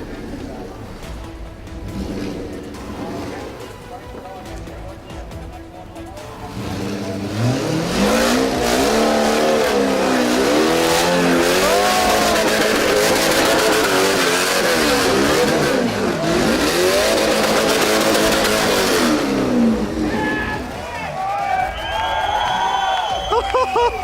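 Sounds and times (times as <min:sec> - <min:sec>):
engine revving hard: 0:00.0 - 0:04.6, 0:06.4 - 0:23.1.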